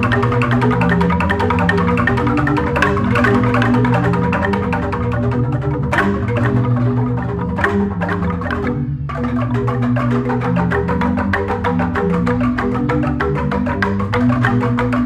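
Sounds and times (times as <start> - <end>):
bamboo xylophones fast mallet strokes: 0.0 - 15.0.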